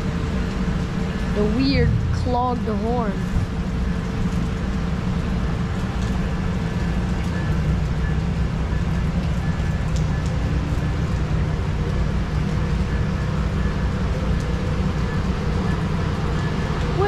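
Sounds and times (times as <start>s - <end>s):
heavy rain hissing: 0.0s - 17.0s
train rumbling: 0.0s - 17.0s.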